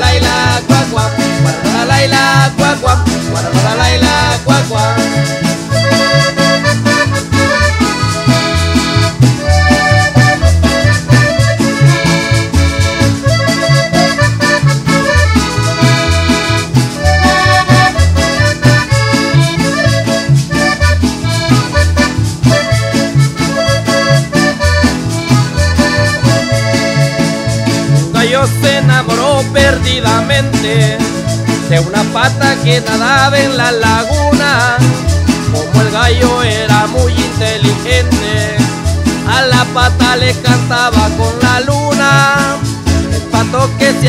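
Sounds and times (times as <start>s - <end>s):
accordion melody: 0.0s - 44.0s
bouncing bass line: 0.0s - 44.0s
steady beat: 0.0s - 44.0s.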